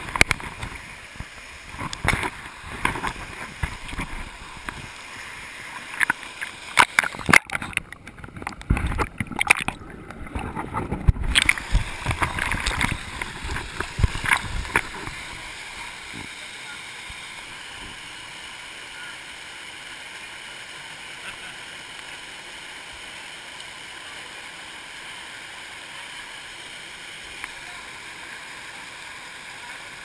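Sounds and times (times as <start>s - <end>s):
water splashing at a waterfall: 0.0s - 30.0s.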